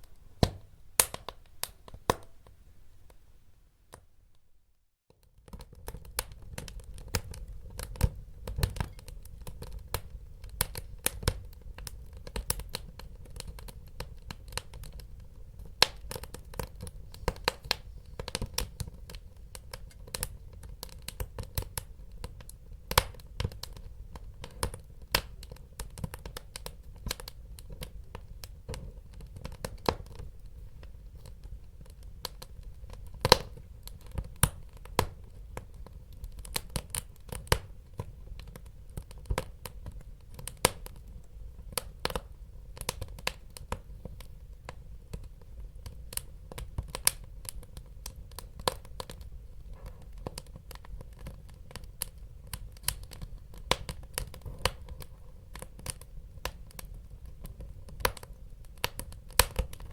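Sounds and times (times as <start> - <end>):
wood fire crackling and popping: 0.1 - 2.4, 5.1 - 59.9.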